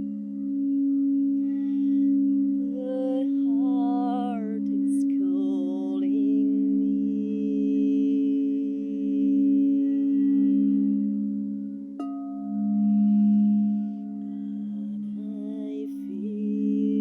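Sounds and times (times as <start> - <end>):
woman singing wordless melody: 0.0 - 11.7, 12.7 - 17.0
singing bowls low tones: 0.0 - 17.0.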